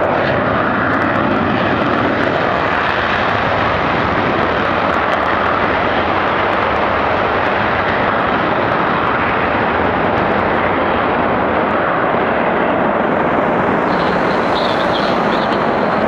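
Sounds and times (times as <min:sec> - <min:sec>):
jet engines in afterburner: 0:00.0 - 0:16.0.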